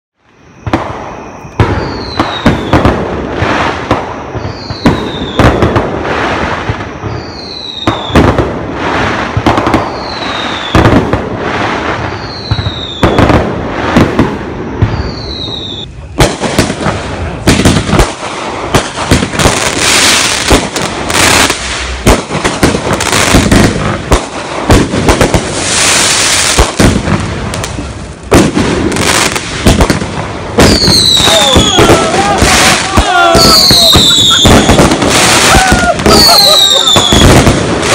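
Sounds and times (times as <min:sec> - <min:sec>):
fireworks bangs and pops: 0:00.2 - 0:37.9
fireworks crackling: 0:00.2 - 0:37.9.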